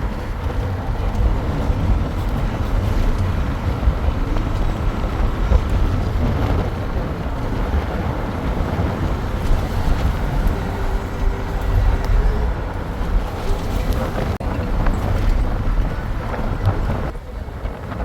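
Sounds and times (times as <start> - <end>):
car driving on road: 0.0 - 18.0.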